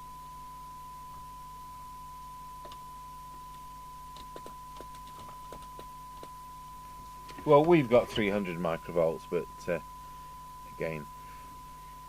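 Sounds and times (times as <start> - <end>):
low steady hum: 0.0 - 12.0
steady test tone from speaker: 0.0 - 12.0.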